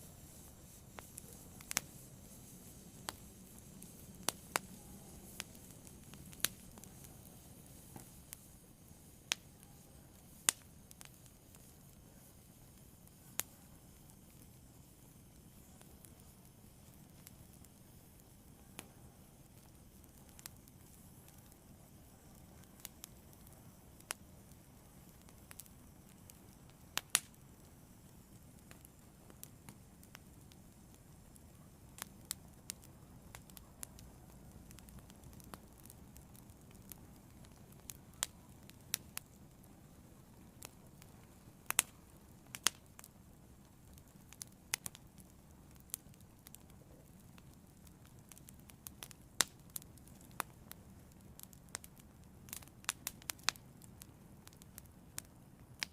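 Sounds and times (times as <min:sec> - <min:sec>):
fire crackling and popping: 0:00.0 - 0:55.9
low rush of fire: 0:00.0 - 0:55.9.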